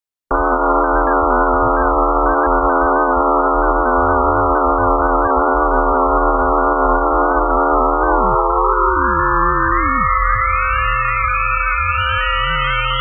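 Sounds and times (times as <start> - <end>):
electronic drone of pure tones: 0.3 - 13.0.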